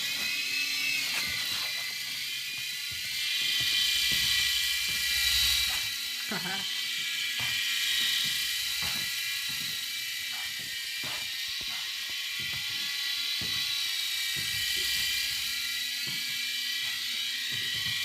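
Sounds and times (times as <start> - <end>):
toy helicopter motors whining: 0.0 - 18.0.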